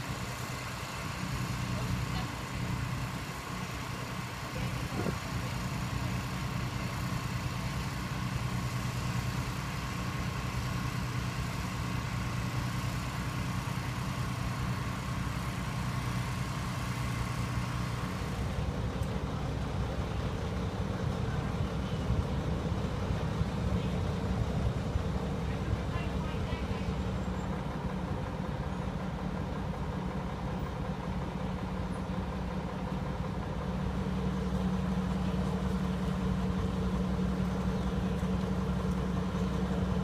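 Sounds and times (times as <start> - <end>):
heavy engines idling: 0.0 - 40.0.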